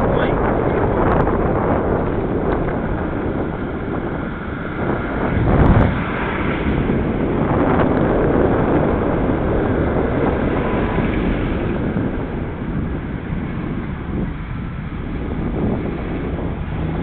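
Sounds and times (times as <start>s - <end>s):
street traffic: 0.0s - 17.0s
wind rushing over microphone: 0.0s - 17.0s.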